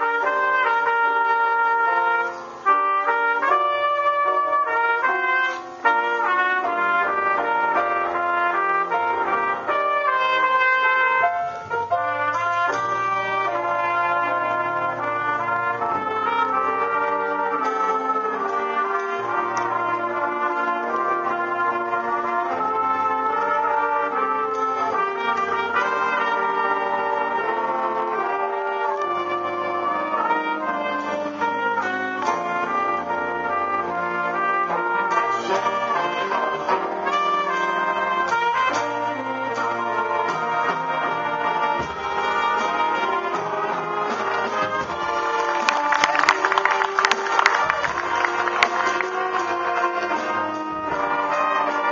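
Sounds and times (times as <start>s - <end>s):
jazz big band playing: 0.0s - 51.9s
trumpet solo: 0.0s - 51.9s.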